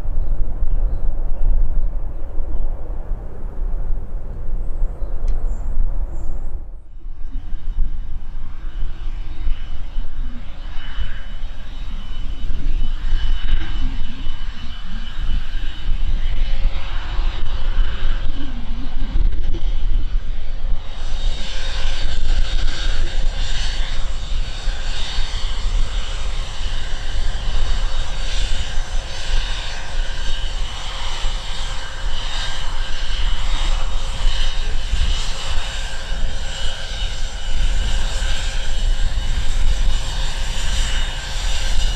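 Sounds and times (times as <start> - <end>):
jet engines whining at taxi: 0.0 - 41.9.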